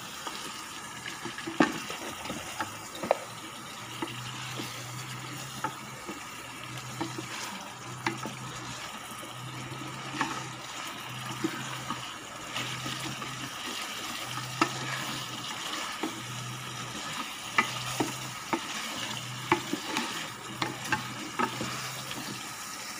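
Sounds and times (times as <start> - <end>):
meat sizzling: 0.0 - 22.9
wooden spatula scraping pot: 0.1 - 22.6.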